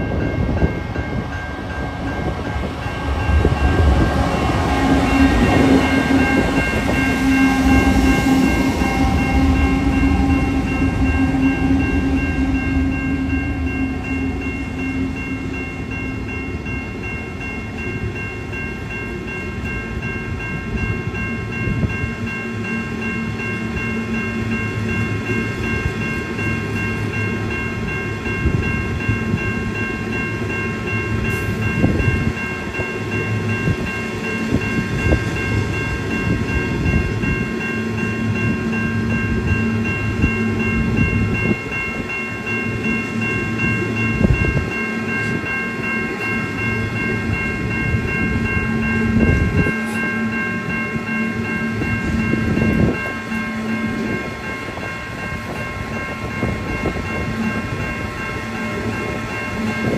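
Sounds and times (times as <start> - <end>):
high-pitched tones: 0.0 - 59.9
train engine hum and rumble: 0.0 - 59.9.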